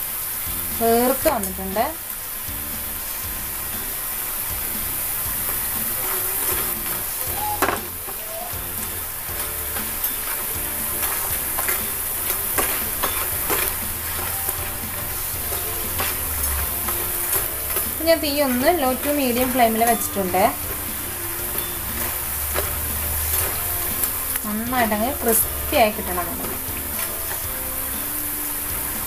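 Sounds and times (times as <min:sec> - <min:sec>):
food deep-frying in oil: 0:00.0 - 0:29.0
spatula scraping a pan: 0:04.8 - 0:29.0.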